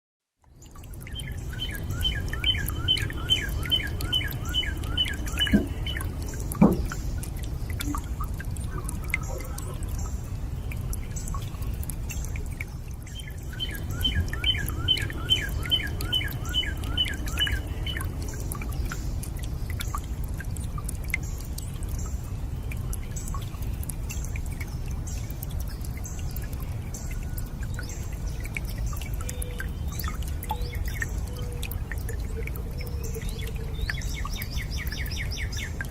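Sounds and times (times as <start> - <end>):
water drops plinking: 0.4 - 35.9
water rushing: 0.6 - 35.9.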